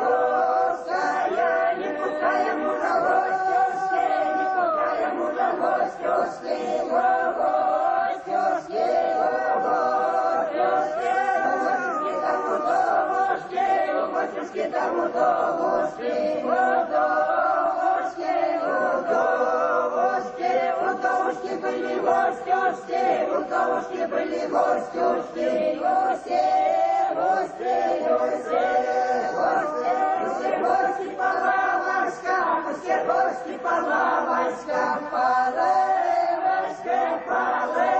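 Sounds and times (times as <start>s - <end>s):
choir singing unaccompanied: 0.0s - 37.9s.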